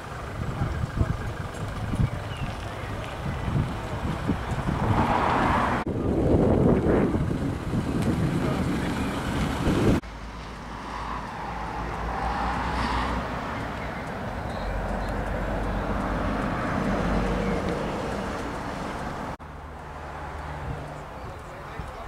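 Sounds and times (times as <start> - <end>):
vehicle engine: 0.0 - 22.0.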